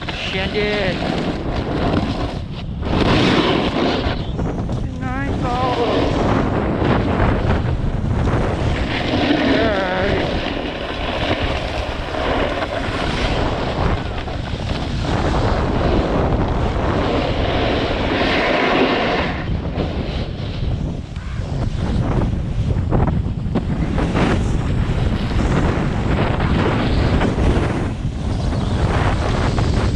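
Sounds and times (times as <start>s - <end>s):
snowboard scraping over snow: 0.0s - 29.9s
wind buffeting microphone: 0.0s - 29.9s.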